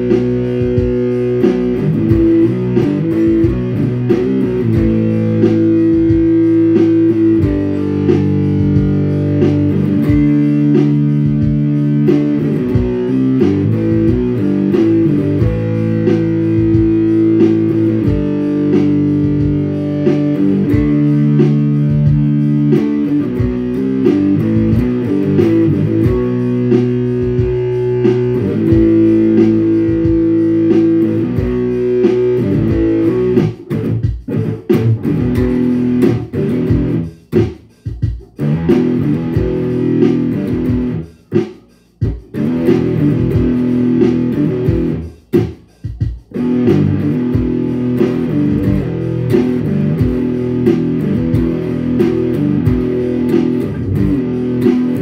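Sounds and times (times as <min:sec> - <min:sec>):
electric guitar riffs: 0:00.0 - 0:55.0.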